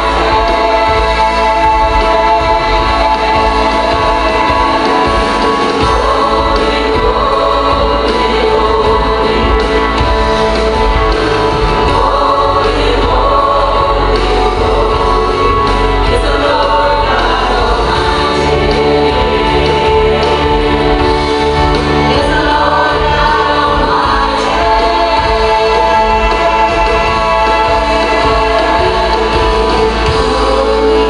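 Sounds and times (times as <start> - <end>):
boy and woman singing gospel: 0.0 - 31.0
musical accompaniment: 0.0 - 31.0.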